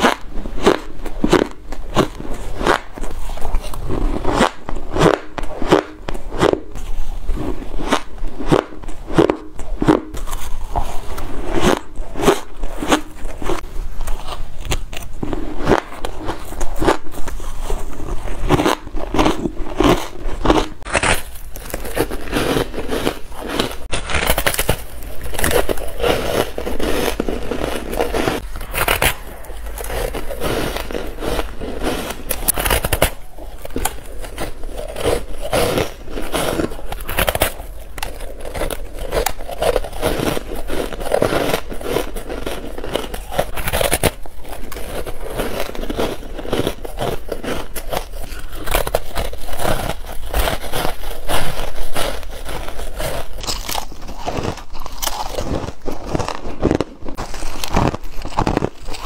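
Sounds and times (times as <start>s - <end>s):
ice being chewed crunching: 0.0s - 59.0s.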